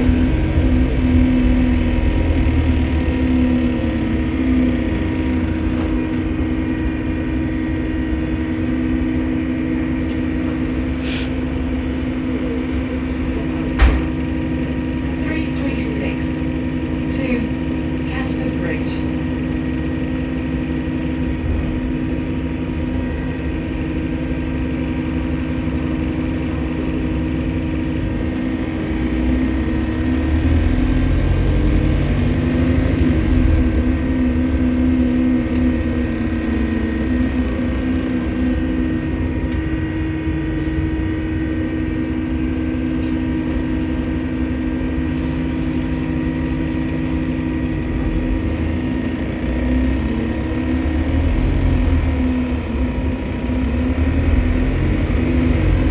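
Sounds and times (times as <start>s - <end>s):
bus diesel engine drone: 0.0s - 55.9s.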